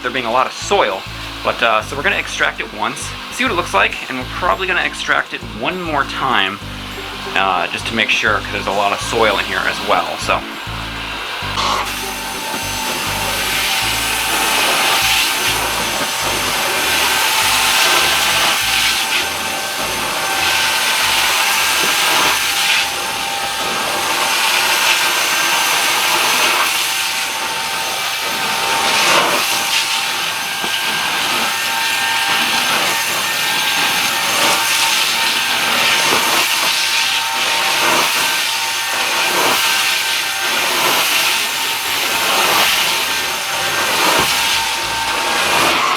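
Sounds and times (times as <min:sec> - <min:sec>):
carpet extraction wand suction hiss: 0:00.0 - 0:45.9
vacuum whine: 0:00.0 - 0:45.9.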